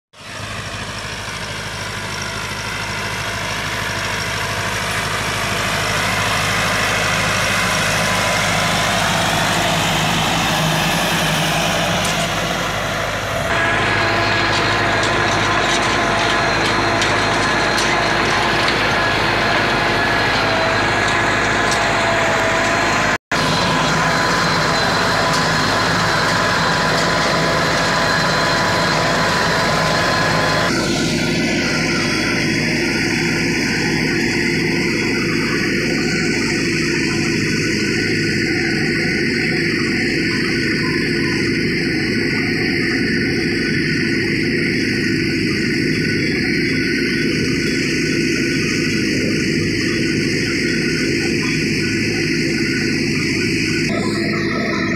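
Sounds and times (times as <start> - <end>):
tractor diesel engine running: 0.1 - 54.9.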